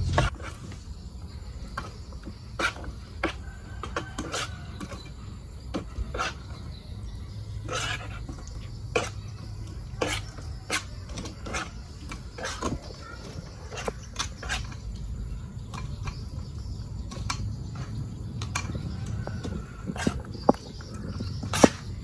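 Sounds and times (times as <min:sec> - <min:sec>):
metal spoon stirring in steel bowl: 0:01.8 - 0:06.8, 0:07.5 - 0:21.9.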